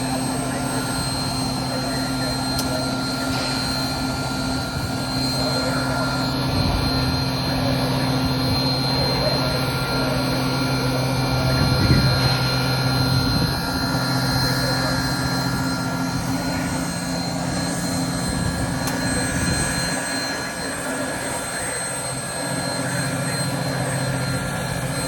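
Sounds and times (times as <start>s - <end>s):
machinery humming: 0.0s - 25.0s.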